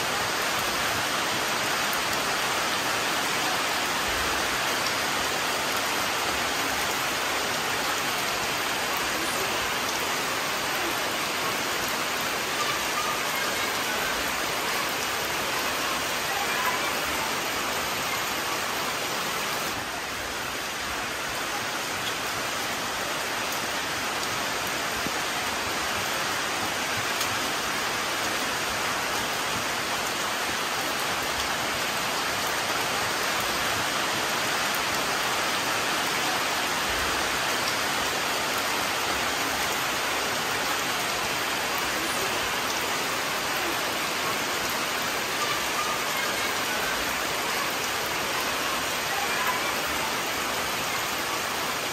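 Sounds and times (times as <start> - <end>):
rain falling on leaves: 0.0 - 51.9.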